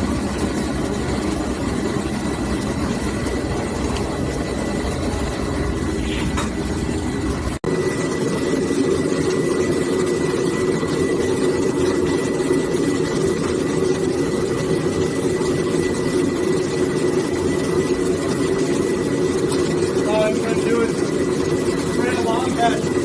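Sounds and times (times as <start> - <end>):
gas forge roaring: 0.0 - 23.0.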